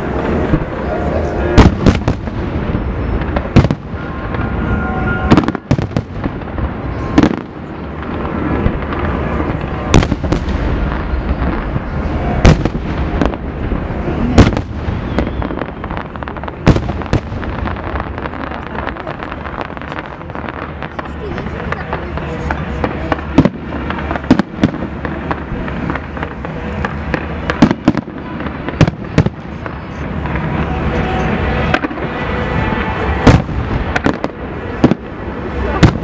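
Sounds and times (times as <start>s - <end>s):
fireworks sharp bangs: 0.0s - 36.0s
rumble and crackle of fireworks: 0.0s - 36.0s.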